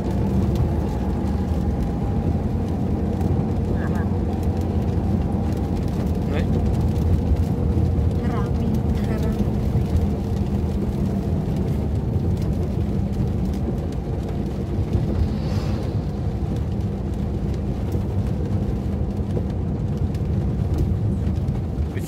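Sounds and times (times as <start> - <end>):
car engine rumble from inside: 0.0 - 22.0
tyres on a wet road: 0.0 - 22.0.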